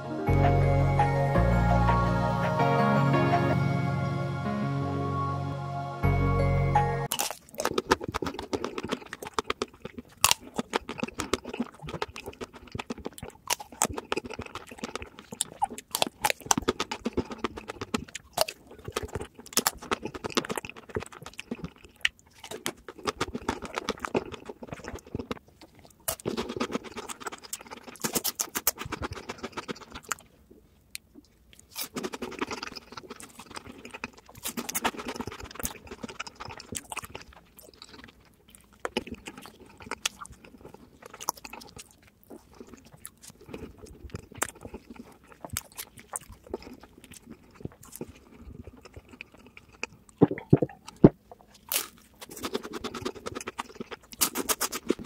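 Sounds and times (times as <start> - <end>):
wet mouth sounds: 7.1 - 55.0.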